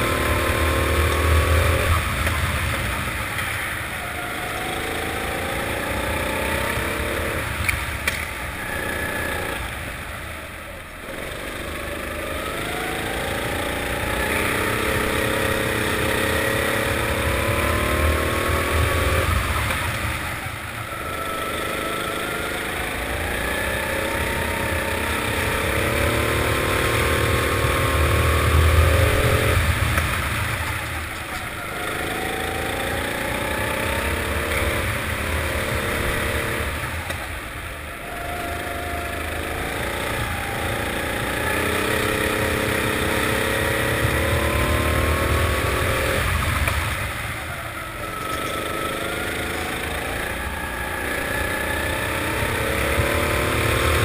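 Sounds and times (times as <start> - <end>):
kart engine accelerating: 0.0 - 54.0.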